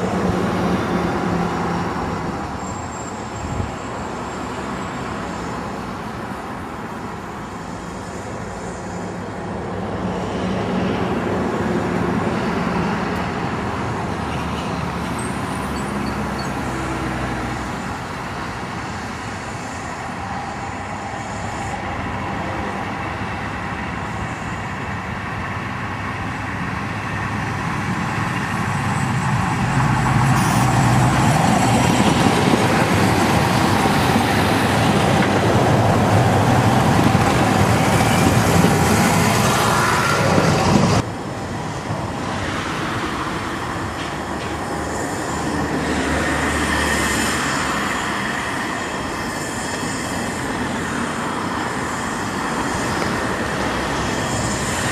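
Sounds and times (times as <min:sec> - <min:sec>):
diesel railcar engine: 0:00.0 - 0:54.9.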